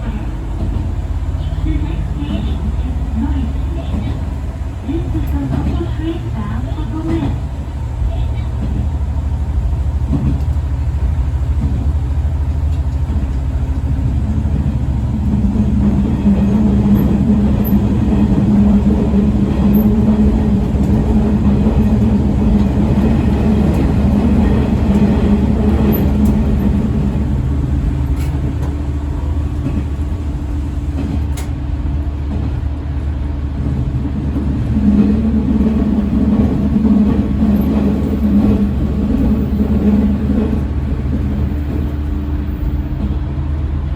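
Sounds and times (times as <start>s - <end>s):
diesel engine drone: 0.0s - 43.9s
wheels rumbling on rail: 0.0s - 43.9s.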